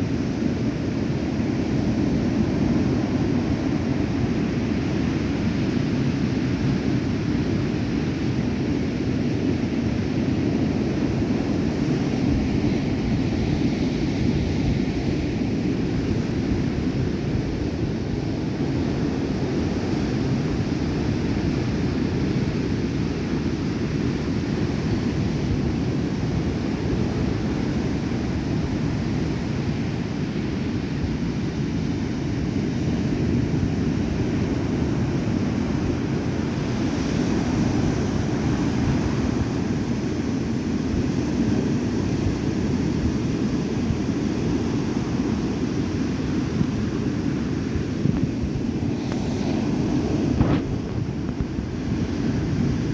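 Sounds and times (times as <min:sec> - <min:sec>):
heavy waves breaking: 0:00.0 - 0:52.9
wind rumbling on microphone: 0:00.0 - 0:52.9.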